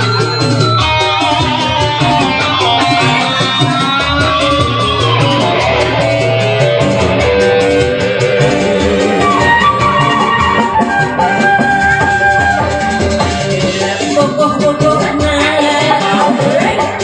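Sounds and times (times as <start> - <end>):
live band with electric guitar: 0.0 - 17.0.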